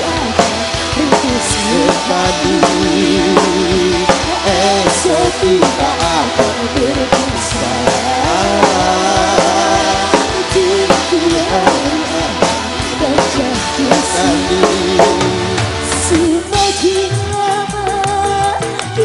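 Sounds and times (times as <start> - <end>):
drum kit beat: 0.0 - 19.0
live band music: 0.0 - 19.0.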